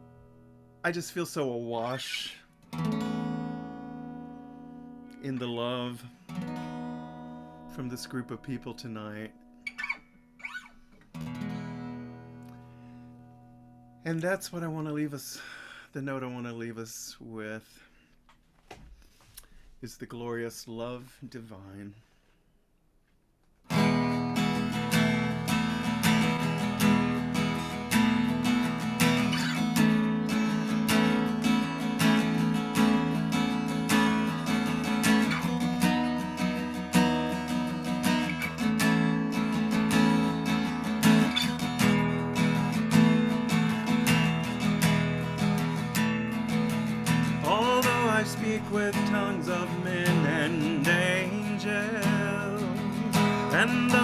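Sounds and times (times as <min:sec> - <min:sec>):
acoustic guitar strumming: 0:00.0 - 0:15.0, 0:23.6 - 0:54.0.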